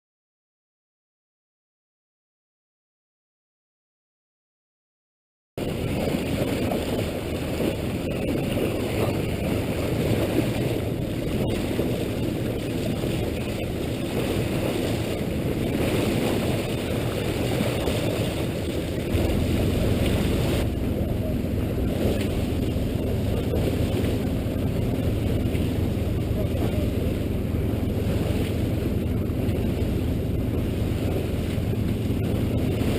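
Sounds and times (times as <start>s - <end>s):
low hum: 5.6s - 32.9s
rush of wind and water: 5.6s - 32.9s.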